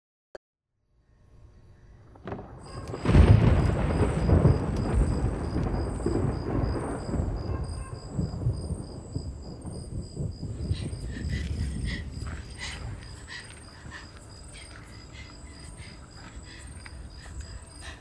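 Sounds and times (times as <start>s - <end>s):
insects chirping: 1.5s - 18.0s
low rumble of thunder: 2.0s - 17.8s.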